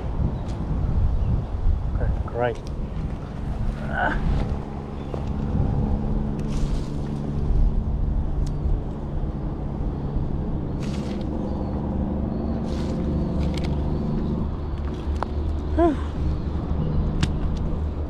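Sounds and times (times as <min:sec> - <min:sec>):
engine drone: 0:02.7 - 0:18.0.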